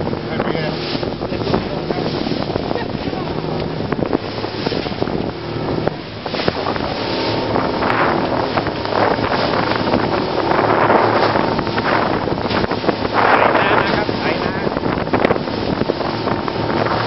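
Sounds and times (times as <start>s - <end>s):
boat engine hum: 0.0s - 17.0s
waves splashing against hull: 0.0s - 17.0s
wind buffeting microphone: 0.0s - 17.0s.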